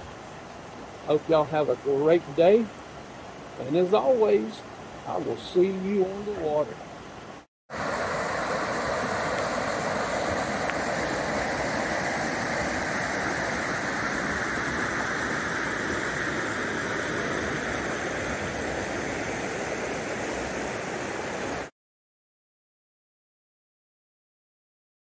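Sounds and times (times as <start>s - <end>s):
river water rushing over rocks: 0.0s - 21.7s.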